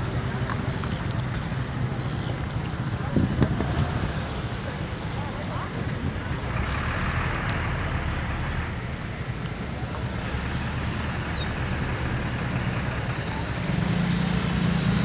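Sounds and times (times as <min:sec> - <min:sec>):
roadside traffic noise: 0:00.0 - 0:15.0
vehicle engine running: 0:00.0 - 0:15.0.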